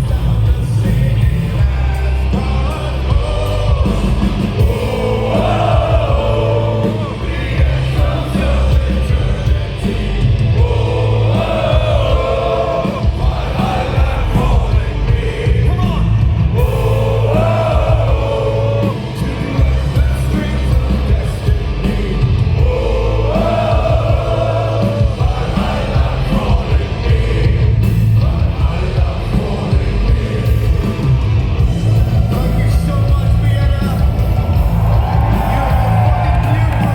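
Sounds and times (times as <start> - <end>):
bass guitar: 0.0 - 36.9
distorted guitars: 0.0 - 36.9
driving drums: 0.0 - 36.9.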